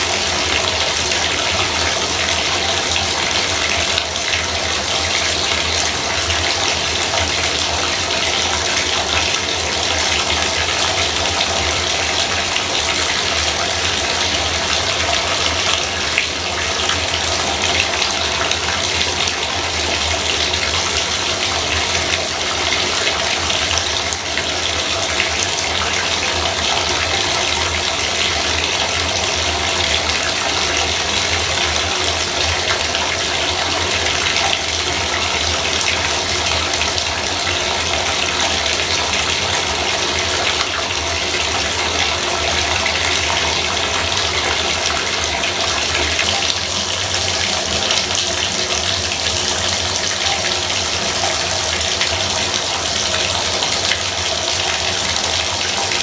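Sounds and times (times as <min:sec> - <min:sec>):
faucet running into bathtub: 0:00.0 - 0:56.0.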